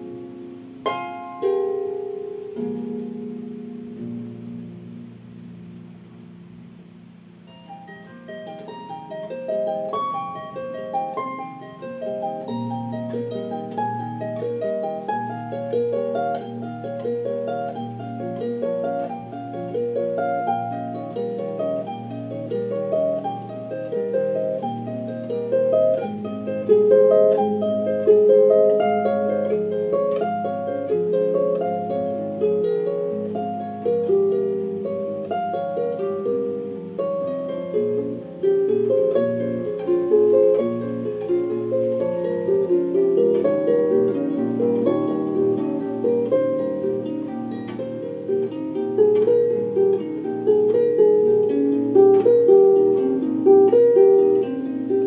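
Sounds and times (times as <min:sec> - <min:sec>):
solo harp playing: 0:00.0 - 0:55.0.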